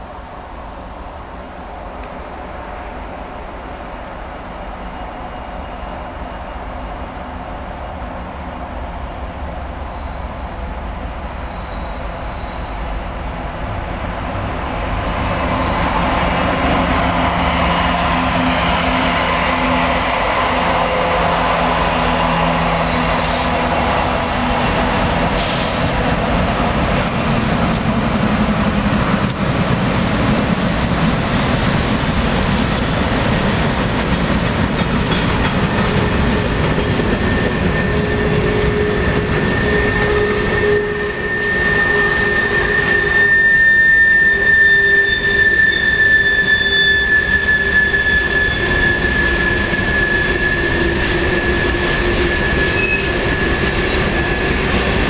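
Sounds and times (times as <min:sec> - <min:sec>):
diesel locomotive engine drone: 0:00.0 - 0:55.0
train wheels rolling: 0:01.9 - 0:55.0.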